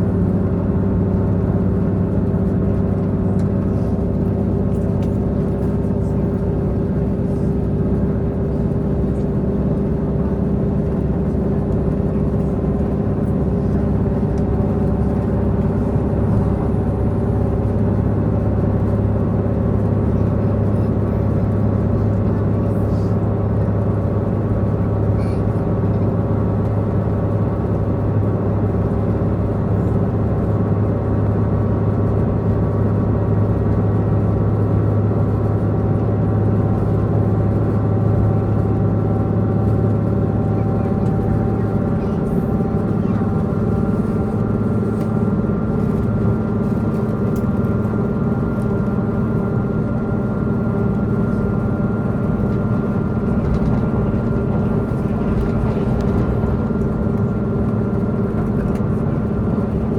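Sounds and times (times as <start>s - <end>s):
diesel engine droning: 0.0s - 59.9s
wheels running on rail: 0.0s - 59.9s.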